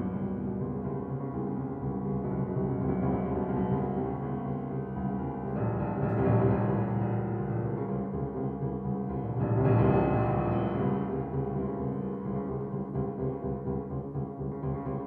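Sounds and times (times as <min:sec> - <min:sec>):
grand piano playing: 0:00.0 - 0:15.0.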